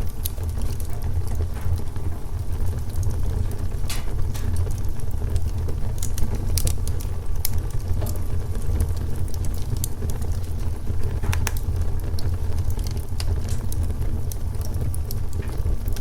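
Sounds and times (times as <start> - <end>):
fire crackling and popping: 0.0 - 16.0
fire low rumble: 0.0 - 16.0.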